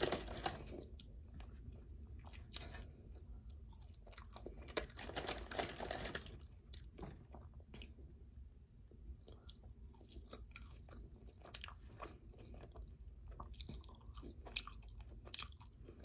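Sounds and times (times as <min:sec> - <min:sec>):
person chewing crunchy food: 0:00.0 - 0:08.1, 0:09.2 - 0:16.0.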